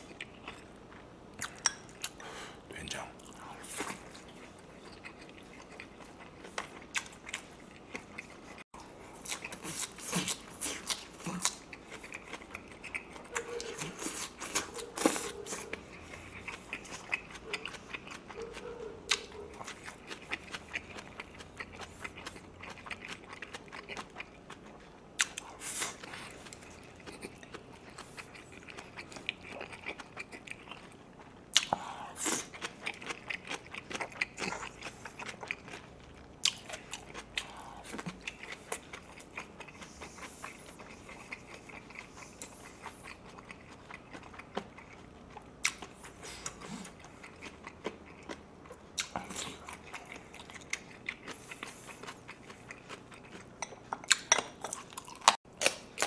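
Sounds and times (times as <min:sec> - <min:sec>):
person chewing with wet smacking: 0:00.0 - 0:56.0.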